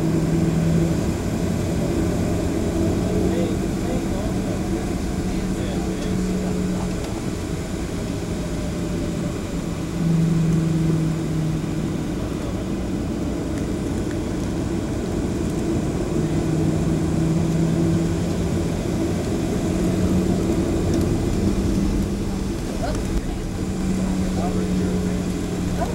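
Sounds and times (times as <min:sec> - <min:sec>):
jet engines rumbling: 0:00.0 - 0:25.9
low hum: 0:00.0 - 0:25.9.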